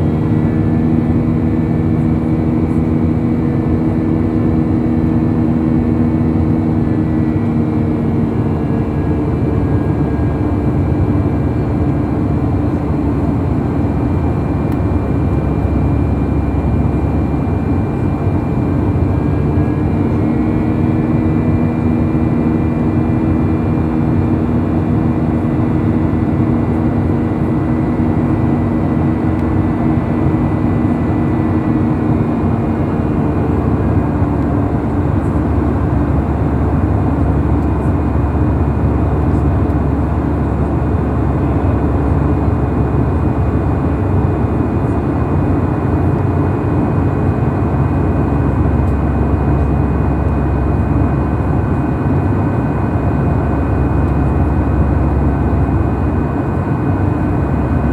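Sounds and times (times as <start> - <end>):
jet engine drone in cabin: 0.0 - 57.9
held hum tones: 8.1 - 57.9.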